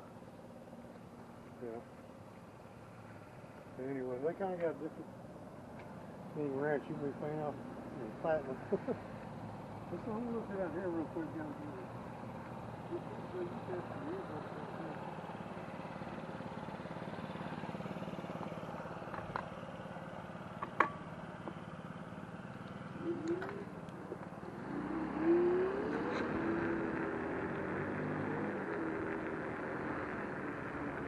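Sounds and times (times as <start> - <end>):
electric scooter hum: 0.0 - 31.0
road and wind noise: 0.0 - 31.0.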